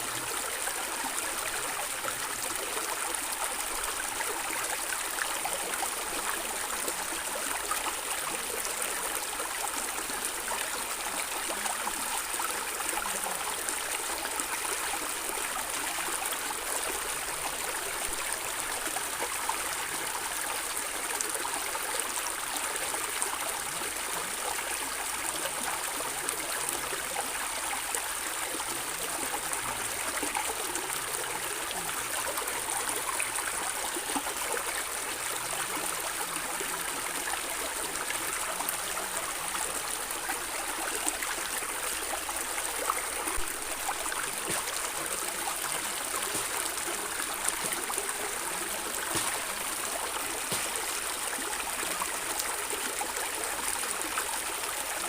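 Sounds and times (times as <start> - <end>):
stream water gurgling: 0.0 - 55.0.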